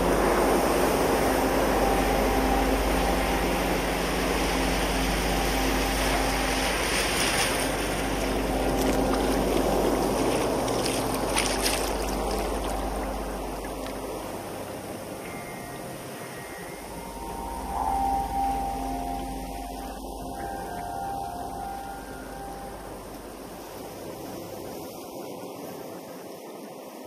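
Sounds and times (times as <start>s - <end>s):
bright water splashes: 0.0s - 26.0s
low hum of held tones: 0.0s - 26.2s
waves washing among rocks: 0.0s - 27.0s.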